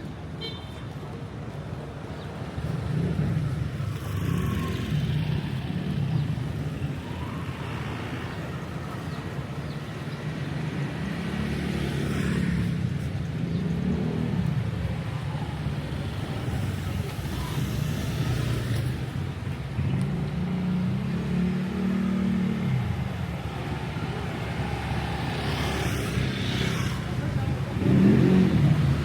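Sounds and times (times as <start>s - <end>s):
motor vehicles passing: 2.3s - 29.0s.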